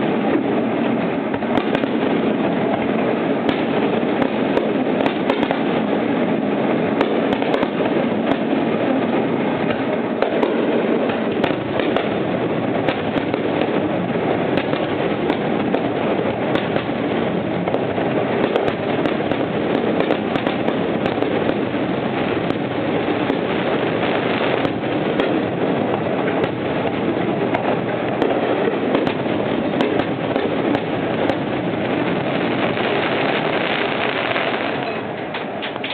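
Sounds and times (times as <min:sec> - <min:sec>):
fireworks bursting and crackling: 0:00.0 - 0:35.9.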